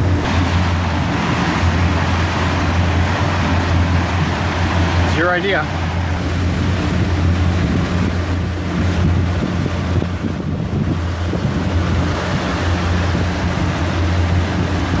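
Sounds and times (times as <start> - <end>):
motorboat engine droning: 0.0 - 15.0
water rushing past hull: 0.0 - 15.0
wind on microphone: 0.0 - 15.0.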